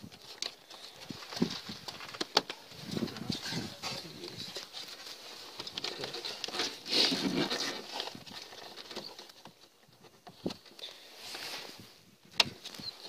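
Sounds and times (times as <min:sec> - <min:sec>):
plastic rustling and scraping: 0:00.0 - 0:13.0.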